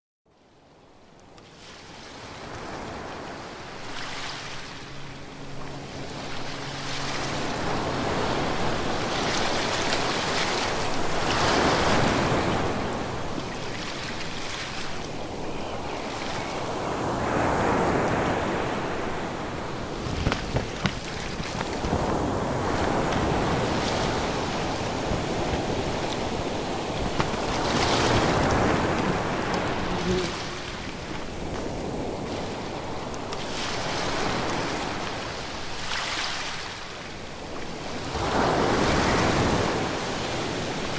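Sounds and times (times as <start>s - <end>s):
ocean waves breaking: 1.7s - 40.9s.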